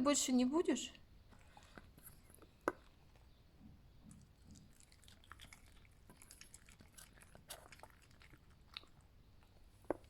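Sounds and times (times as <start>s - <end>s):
fox chewing food: 1.2s - 10.0s.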